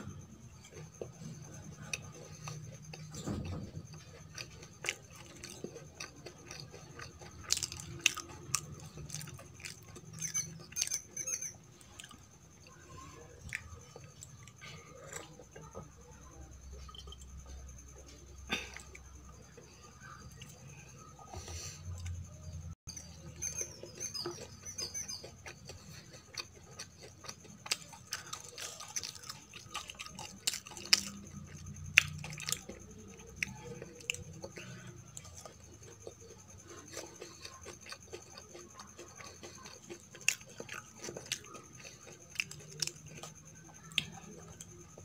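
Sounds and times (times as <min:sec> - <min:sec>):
close-miked chewing: 0:00.0 - 0:45.0.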